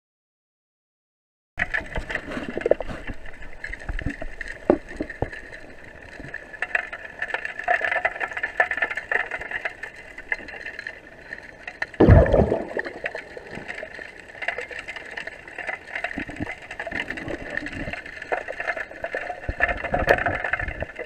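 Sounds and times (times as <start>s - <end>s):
underwater river current rushing: 1.7s - 21.0s.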